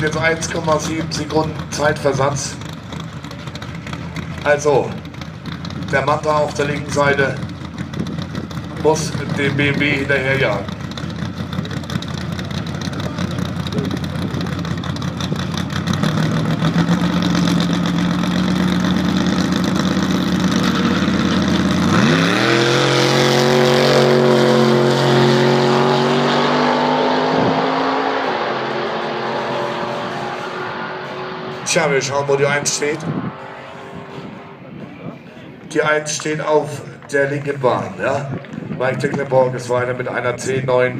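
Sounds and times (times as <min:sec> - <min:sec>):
drag race car engines revving: 0:00.0 - 0:40.9.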